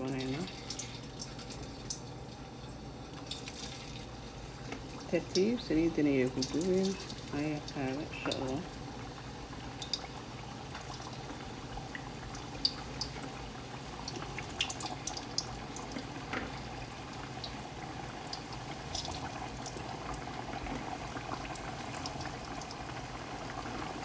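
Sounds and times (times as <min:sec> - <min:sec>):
chips deep-frying in hot oil: 0:00.0 - 0:24.0.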